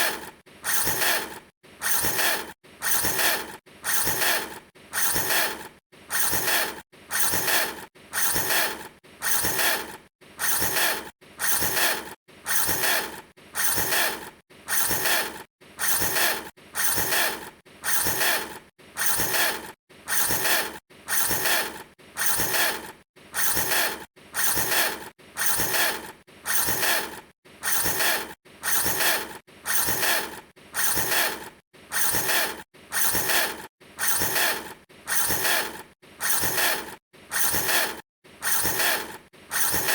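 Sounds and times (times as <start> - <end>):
short mechanical revving whir: 0.0 - 39.9.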